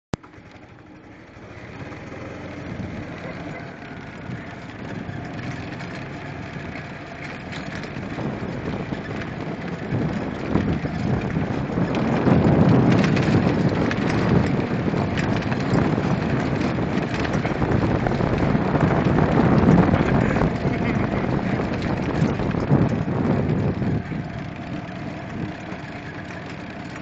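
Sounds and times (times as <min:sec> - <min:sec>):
golf cart driving: 0:00.1 - 0:27.0
wind noise on microphone: 0:02.5 - 0:27.0.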